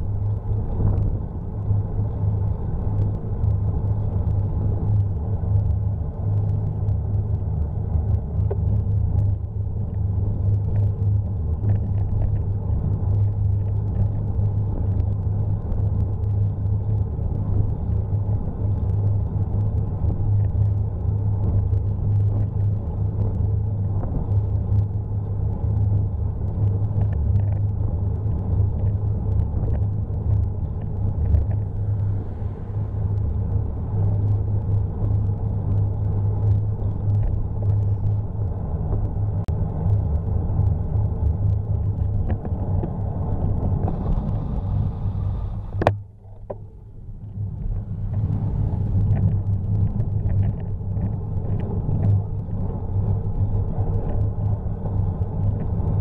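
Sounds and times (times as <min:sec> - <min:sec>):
wind and road rumble: 0:00.0 - 0:56.0
small clicks and rattles: 0:00.1 - 0:44.5, 0:45.7 - 0:56.0.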